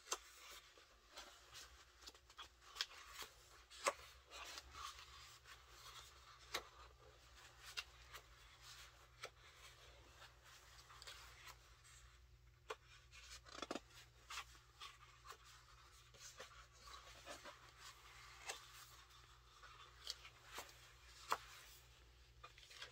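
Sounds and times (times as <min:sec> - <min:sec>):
book pages rustling: 0:00.0 - 0:22.9.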